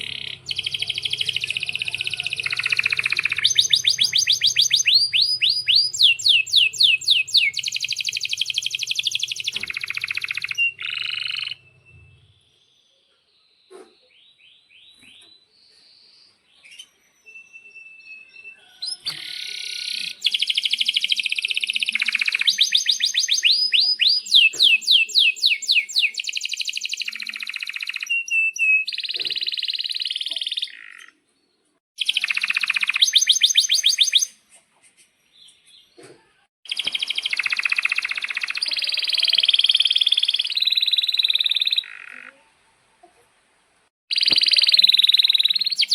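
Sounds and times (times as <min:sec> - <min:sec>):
canary singing trills and whistles: 0:00.0 - 0:12.7, 0:16.0 - 0:31.2, 0:32.0 - 0:36.0, 0:36.7 - 0:42.5, 0:44.1 - 0:45.9.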